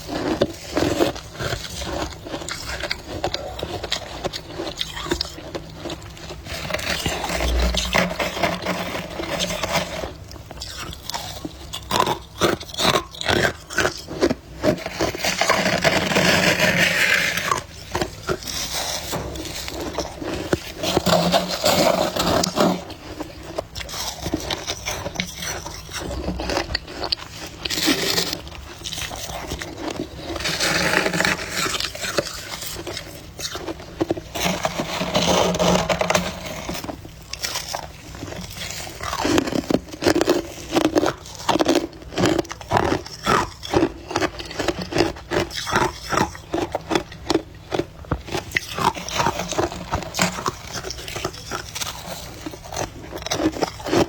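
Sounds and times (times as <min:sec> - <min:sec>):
crunching frost: 0:00.0 - 0:54.0
grinding chewing: 0:00.0 - 0:54.0.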